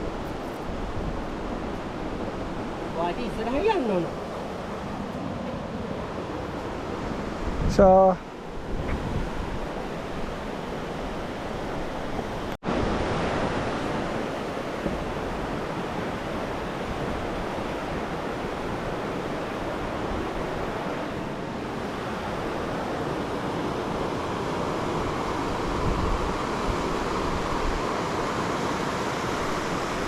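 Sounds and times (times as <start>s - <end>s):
rushing water: 0.0s - 30.0s.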